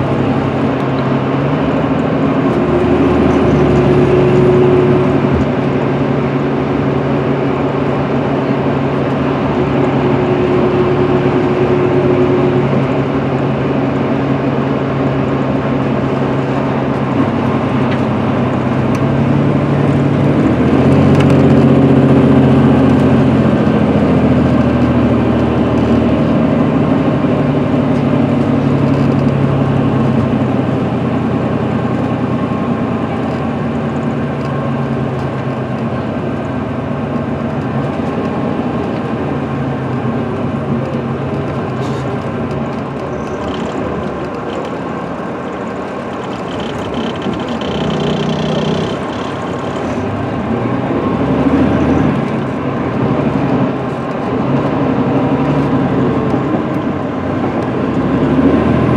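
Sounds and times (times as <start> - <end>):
diesel engine droning: 0.0 - 58.9
road and tyre noise: 0.0 - 58.9.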